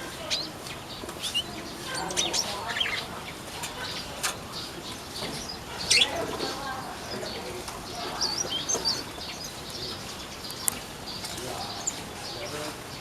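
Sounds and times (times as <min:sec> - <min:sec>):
small birds twittering: 0:00.0 - 0:13.0.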